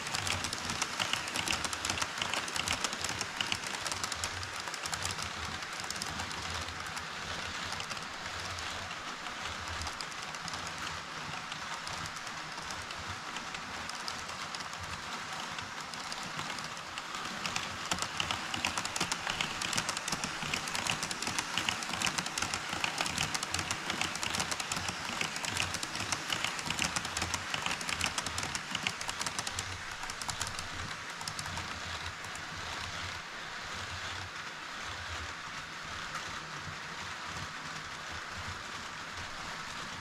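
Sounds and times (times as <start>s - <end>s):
wheels clicking over rail joints: 0.0s - 33.3s
model train rolling hum: 0.0s - 40.0s.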